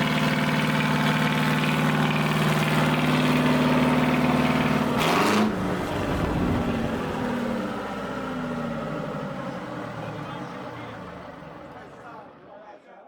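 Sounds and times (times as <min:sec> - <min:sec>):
tractor engine idling: 0:00.0 - 0:12.6.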